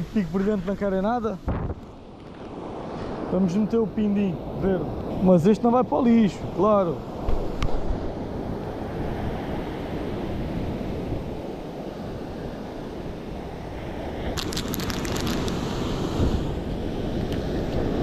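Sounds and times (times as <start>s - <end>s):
sea waves washing: 0.0s - 18.0s.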